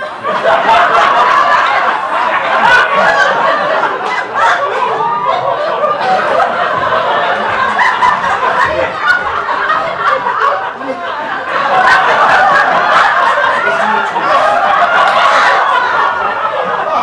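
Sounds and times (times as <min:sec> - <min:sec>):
audience laughing: 0:00.0 - 0:17.0.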